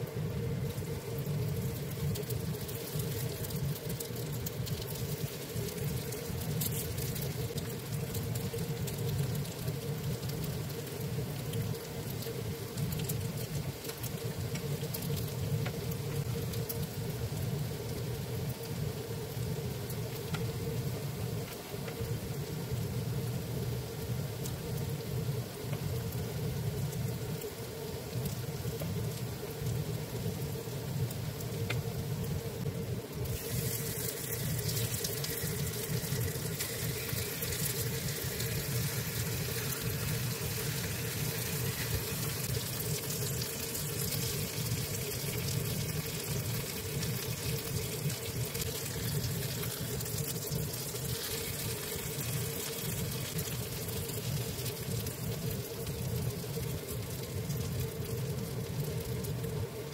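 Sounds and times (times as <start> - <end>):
pancakes sizzling in a pan: 0.0 - 59.9.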